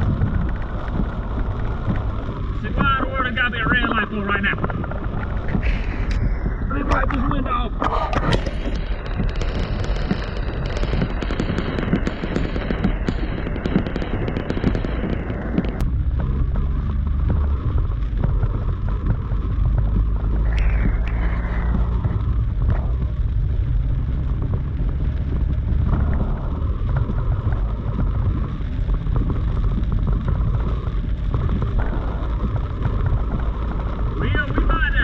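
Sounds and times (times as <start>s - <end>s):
heavy rain on vehicle: 0.0s - 35.0s
wind and vehicle rumble: 0.0s - 35.0s.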